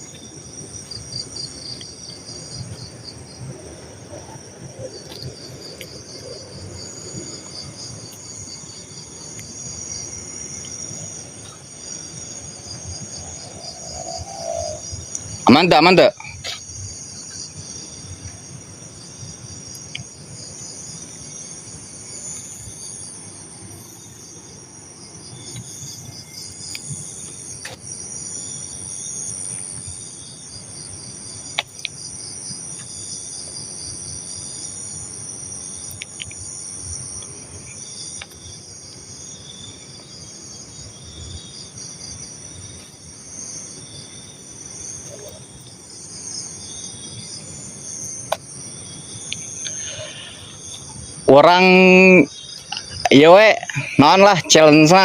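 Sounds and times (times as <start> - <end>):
crickets trilling: 0.0 - 55.0
insects pulsing chirps: 0.0 - 55.0.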